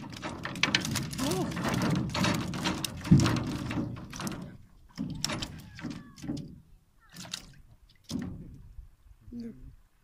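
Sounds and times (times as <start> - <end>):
knocks and thuds on boat: 0.0 - 8.8.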